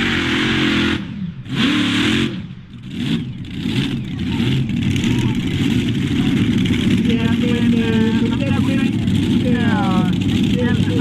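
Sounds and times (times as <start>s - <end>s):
tractor engines revving: 0.0s - 11.0s.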